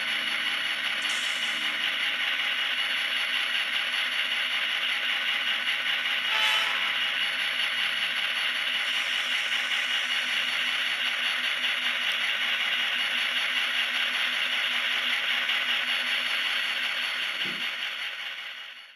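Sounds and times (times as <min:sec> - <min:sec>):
model motor and wheels whirring: 0:00.0 - 0:18.8
diesel engine sound from small speaker: 0:00.0 - 0:18.9.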